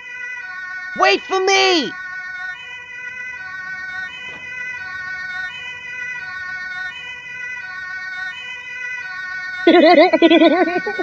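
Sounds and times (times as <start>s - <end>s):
electronic siren tones: 0.0s - 11.0s.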